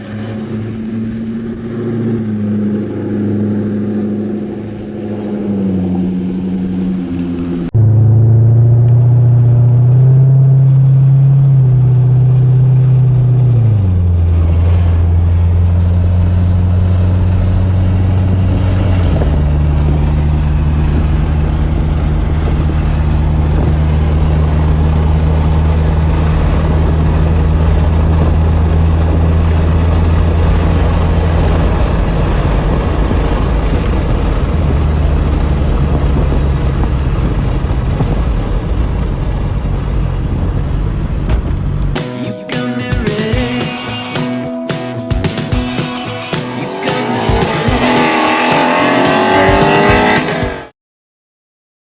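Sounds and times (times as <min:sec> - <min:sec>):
car engine running: 0:00.0 - 0:50.7.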